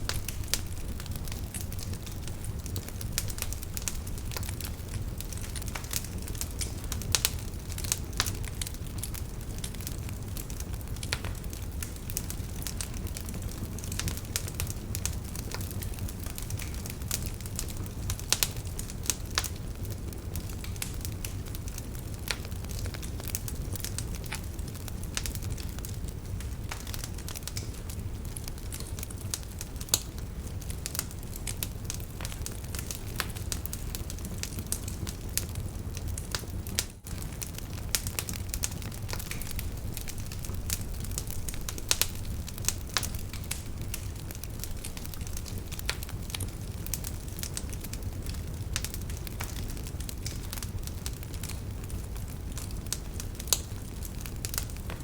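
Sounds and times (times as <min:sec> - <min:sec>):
fire snapping and popping: 0:00.0 - 0:55.0
low rumble of fire: 0:00.0 - 0:55.0.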